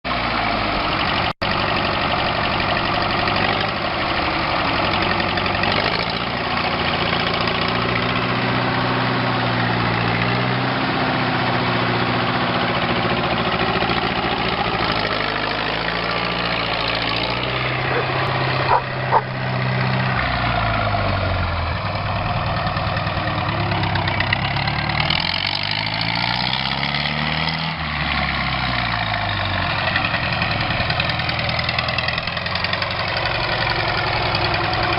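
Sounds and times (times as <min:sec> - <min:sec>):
motor engine running: 0:00.8 - 0:08.8, 0:11.4 - 0:26.2, 0:28.9 - 0:34.9.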